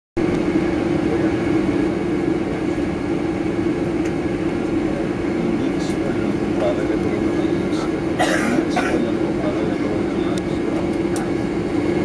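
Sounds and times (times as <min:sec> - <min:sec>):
engine and air rush: 0:00.2 - 0:12.0
low cabin hum: 0:00.2 - 0:12.0.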